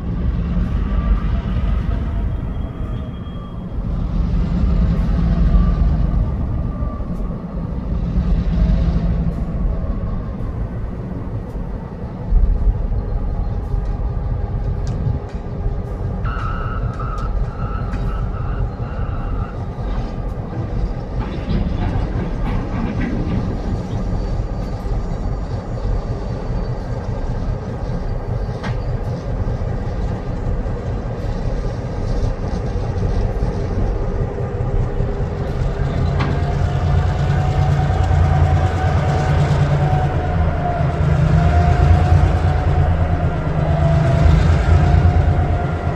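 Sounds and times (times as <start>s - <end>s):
diesel locomotive rumble: 0.0s - 45.9s.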